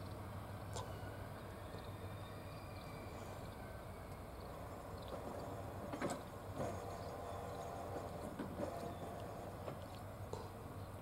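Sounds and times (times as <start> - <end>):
distant railcar engine hum: 0.0 - 11.0.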